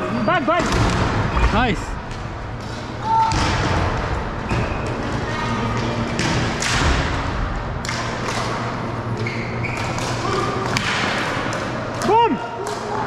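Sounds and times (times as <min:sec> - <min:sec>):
hubbub of game: 0:00.0 - 0:09.2, 0:09.8 - 0:13.0.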